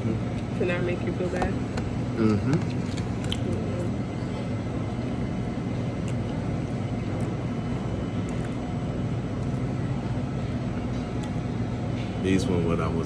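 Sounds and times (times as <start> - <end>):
machinery and ventilation hum: 0.0 - 13.0.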